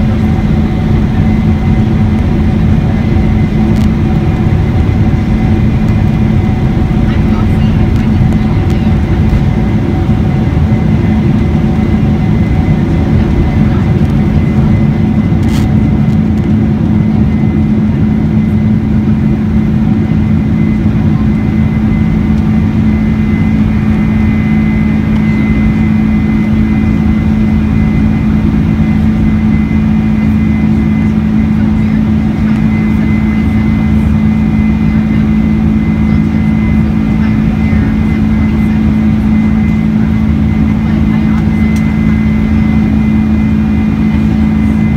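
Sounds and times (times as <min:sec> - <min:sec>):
jet engines droning in cabin: 0:00.0 - 0:44.9.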